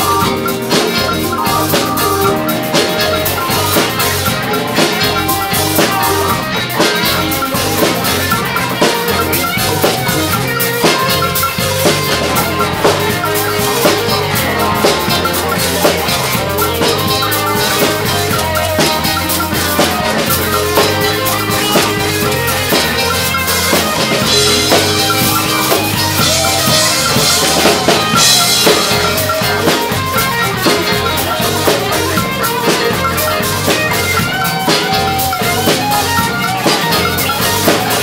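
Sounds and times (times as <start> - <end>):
drum kit steady beat: 0.0 - 38.0
live band playing amplified music: 0.0 - 38.0.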